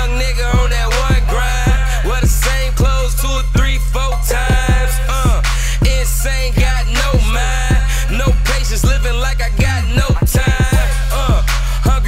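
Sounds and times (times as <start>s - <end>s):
rapping over a beat: 0.0s - 12.0s.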